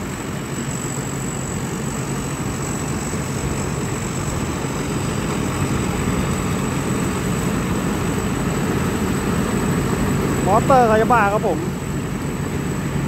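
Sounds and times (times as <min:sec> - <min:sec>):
combine harvester diesel engine: 0:00.0 - 0:13.0.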